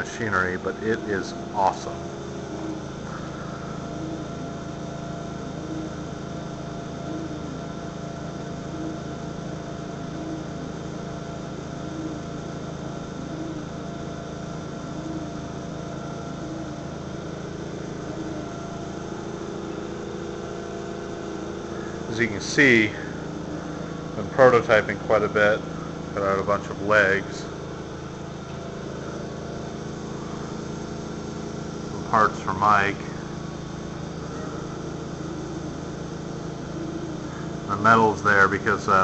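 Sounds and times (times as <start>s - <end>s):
laser cutter humming: 0.0s - 39.0s.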